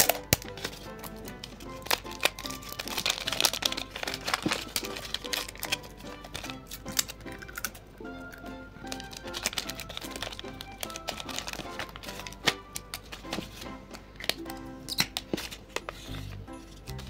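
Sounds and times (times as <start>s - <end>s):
paper crinkling and rustling: 0.0s - 7.7s, 8.9s - 17.0s
background music: 0.0s - 17.0s.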